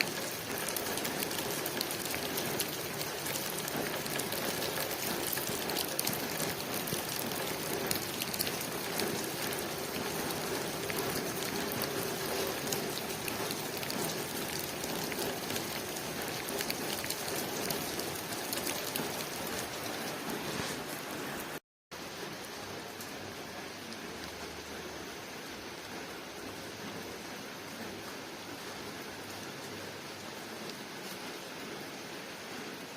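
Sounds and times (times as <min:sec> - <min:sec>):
rain pattering on a window: 0:00.0 - 0:32.9.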